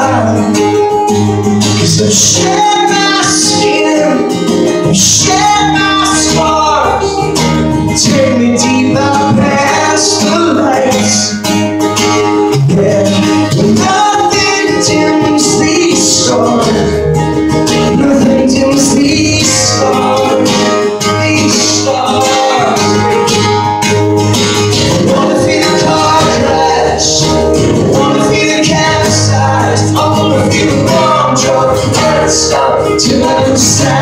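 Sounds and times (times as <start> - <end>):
man singing: 0.0 - 11.6, 12.2 - 23.6, 24.8 - 34.0
strummed acoustic guitar: 0.0 - 34.0.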